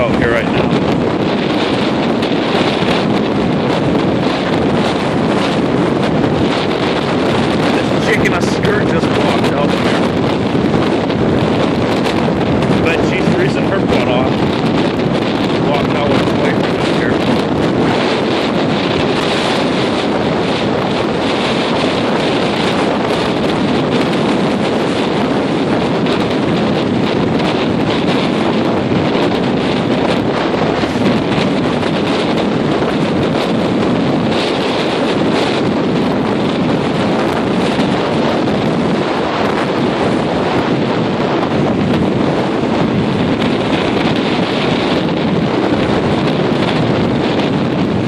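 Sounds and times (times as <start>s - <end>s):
gale wind on microphone: 0.0s - 48.0s.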